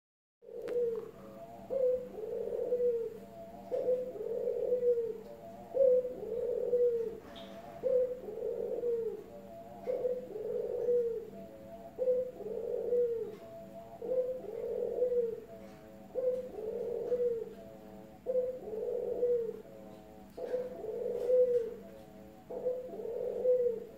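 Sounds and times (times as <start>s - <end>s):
dove cooing: 0.4s - 23.9s.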